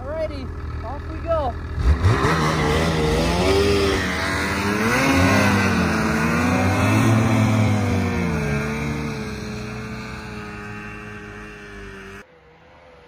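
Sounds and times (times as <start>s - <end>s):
snowmobile engine revving: 0.0s - 12.2s.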